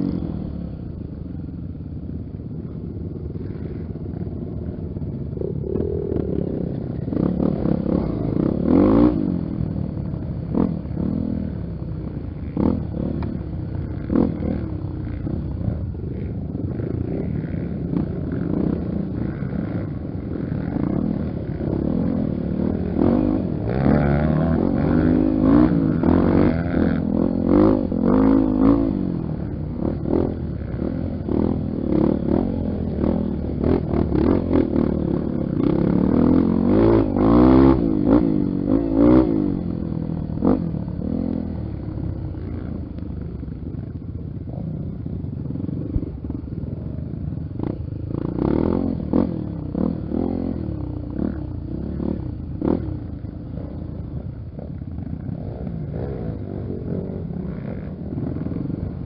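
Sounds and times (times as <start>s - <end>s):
motorcycle engine revving: 0.0s - 59.0s
motorcycle rattling over rough ground: 0.0s - 59.0s.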